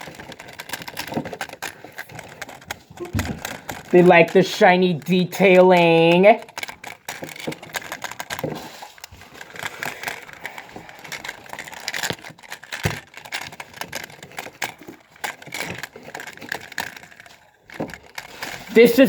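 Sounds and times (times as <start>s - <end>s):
plastic and cardboard crinkling: 0.0s - 19.0s.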